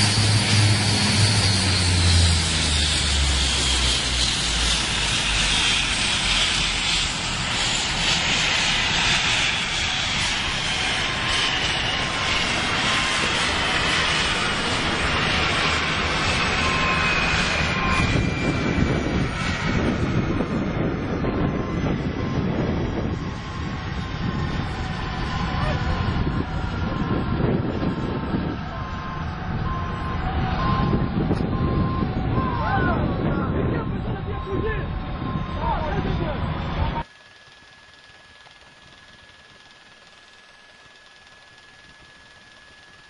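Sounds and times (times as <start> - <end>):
deep rumble: 0.0 - 37.0
jet engines whining down: 0.0 - 43.0.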